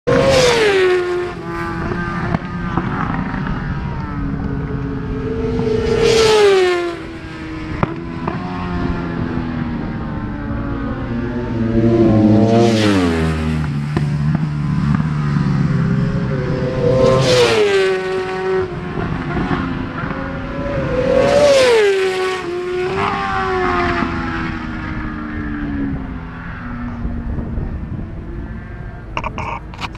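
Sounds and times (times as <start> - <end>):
racing motorcycles passing: 0.1 - 29.7.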